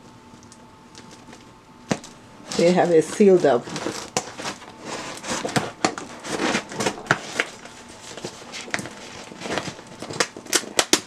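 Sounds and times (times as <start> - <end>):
tape and packing tearing: 1.9 - 11.0.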